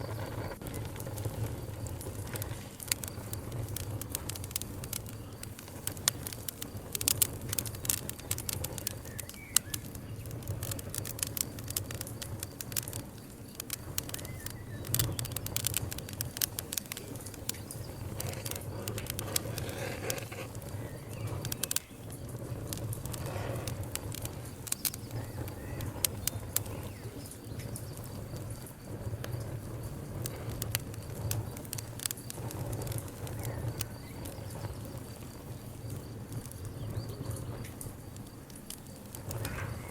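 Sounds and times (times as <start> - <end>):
campfire crackling: 0.0 - 39.9
sharp pops and snaps: 0.0 - 39.9
steady low rumble: 0.0 - 39.9.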